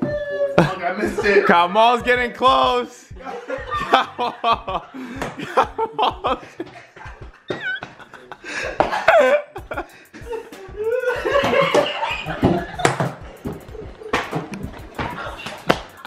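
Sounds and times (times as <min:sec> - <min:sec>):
men laughing: 0:00.4 - 0:02.2, 0:03.2 - 0:16.0.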